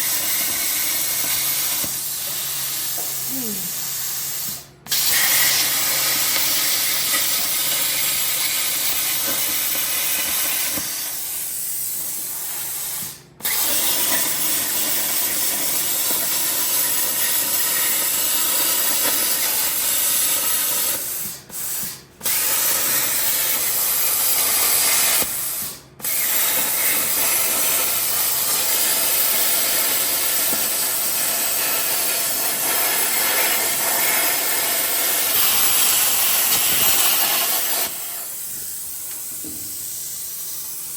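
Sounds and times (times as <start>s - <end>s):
plasma cutter hissing: 0.0s - 40.9s.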